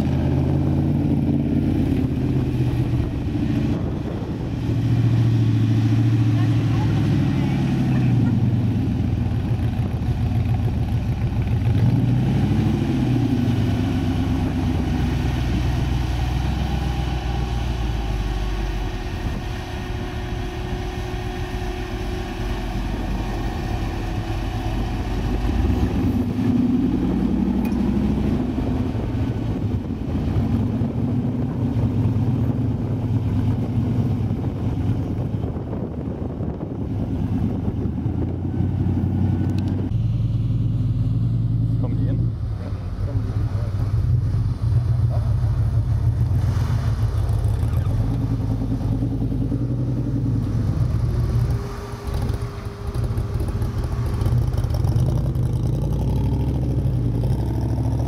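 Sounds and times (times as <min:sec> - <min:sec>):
off-road buggy engine revving: 0:00.0 - 0:58.0.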